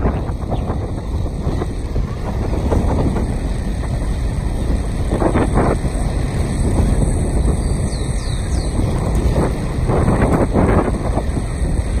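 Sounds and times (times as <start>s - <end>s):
vehicle rumbling on dirt road: 0.0s - 12.0s
wind buffeting microphone: 0.0s - 12.0s.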